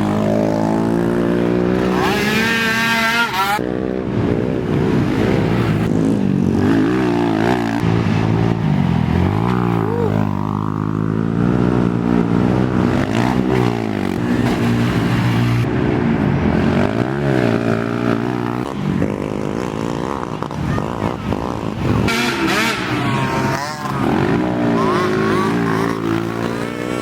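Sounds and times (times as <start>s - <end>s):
atv engines revving: 0.0s - 27.0s.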